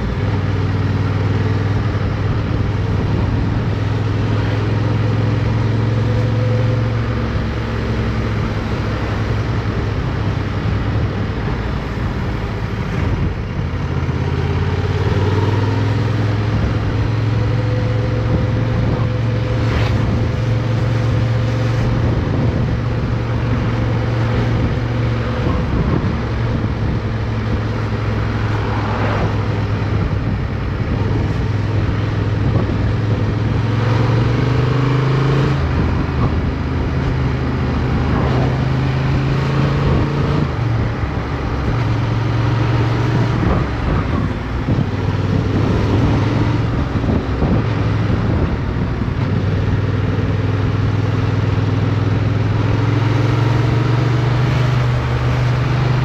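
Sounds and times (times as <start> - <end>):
rushing ride noise: 0.0 - 56.0.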